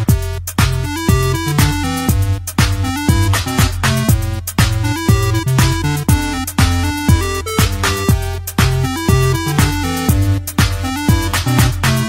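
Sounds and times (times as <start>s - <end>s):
electronic dance music: 0.0s - 12.0s
heavy kick drum: 0.0s - 12.0s
synth melody: 0.8s - 12.0s.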